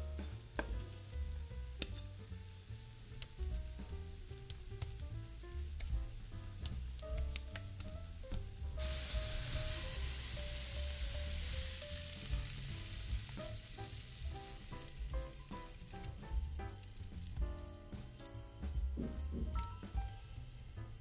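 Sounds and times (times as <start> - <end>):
background music with melody: 0.0 - 21.0
food sizzling in frying pan: 0.0 - 21.0.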